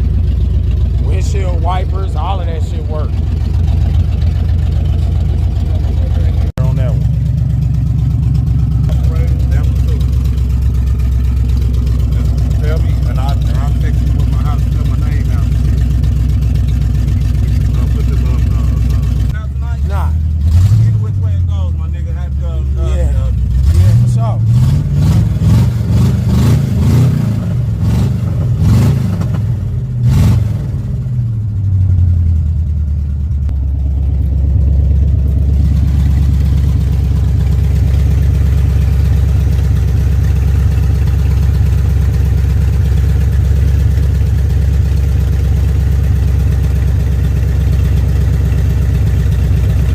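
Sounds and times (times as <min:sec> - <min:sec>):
car engine revving and idling: 0:00.0 - 0:49.9.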